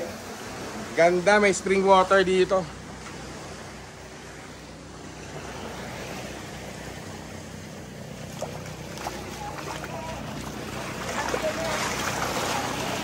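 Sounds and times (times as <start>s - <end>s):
rushing water: 0.0s - 13.0s
wind: 0.0s - 13.0s.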